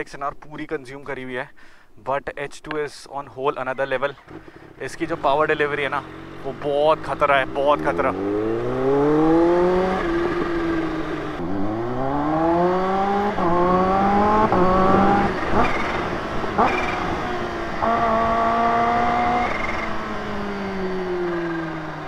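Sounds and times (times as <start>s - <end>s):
motorcycle engine pulling away: 4.3s - 22.0s.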